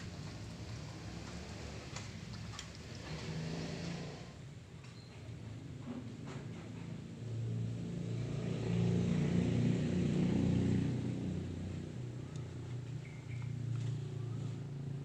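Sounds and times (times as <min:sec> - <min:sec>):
motor vehicle passing: 0:00.0 - 0:04.5, 0:06.2 - 0:15.0.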